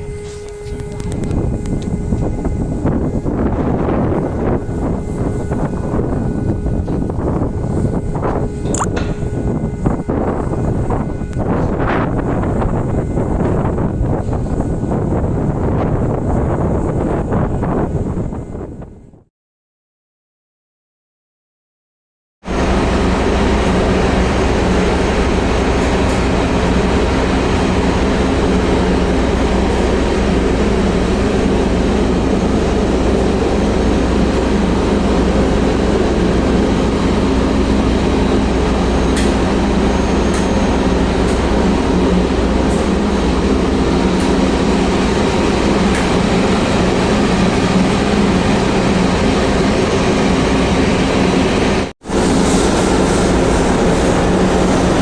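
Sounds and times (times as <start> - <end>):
ship machinery droning: 0.0 - 19.1, 22.4 - 55.0.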